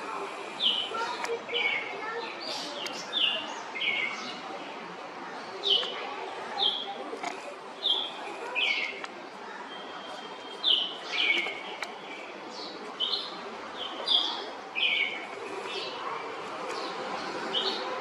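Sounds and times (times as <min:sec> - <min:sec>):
birds chirping: 0:00.4 - 0:04.8, 0:05.4 - 0:18.0.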